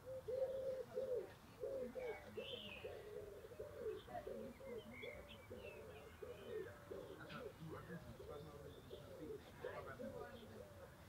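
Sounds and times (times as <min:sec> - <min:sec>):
songbirds chirping faintly: 0:00.0 - 0:11.0.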